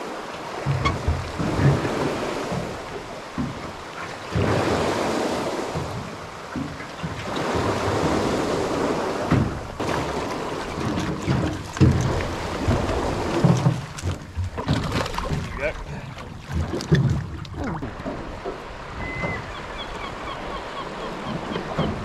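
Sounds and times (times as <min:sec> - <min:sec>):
water lapping and splashing: 0:00.0 - 0:22.0.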